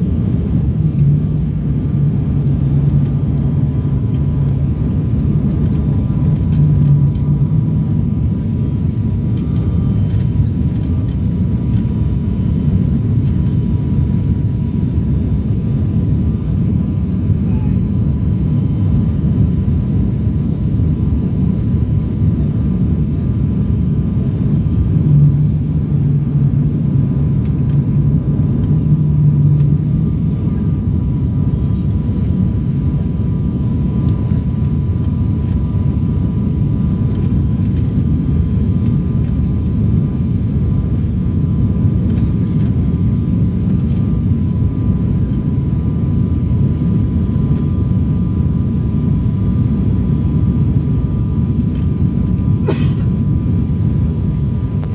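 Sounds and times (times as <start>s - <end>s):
aircraft cabin engine drone: 0.0s - 54.9s
low hum: 0.0s - 54.9s
thin steady whine: 0.0s - 54.9s.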